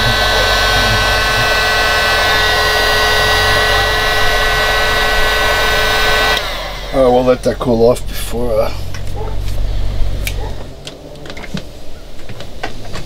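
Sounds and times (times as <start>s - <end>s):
heat gun fan and motor whine: 0.0s - 12.9s.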